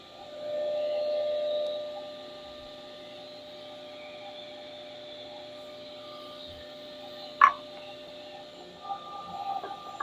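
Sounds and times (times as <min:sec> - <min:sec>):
table saw whining: 0:00.0 - 0:10.0.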